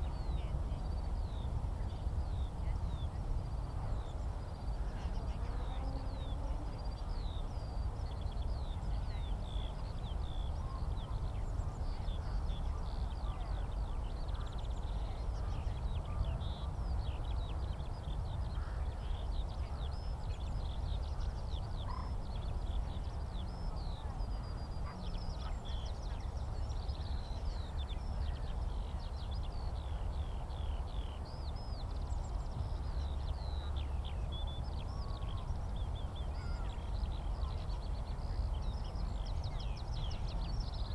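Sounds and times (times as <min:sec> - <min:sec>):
skylark song: 0:00.0 - 0:40.9.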